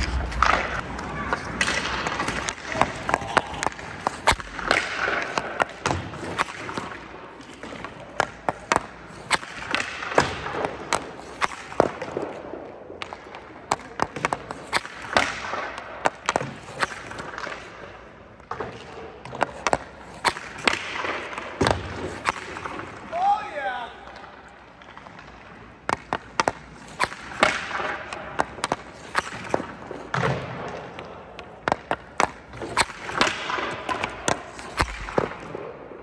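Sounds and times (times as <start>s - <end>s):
hockey stick slapping pucks: 0.0s - 36.0s
pucks hitting goalie pads: 0.0s - 36.0s.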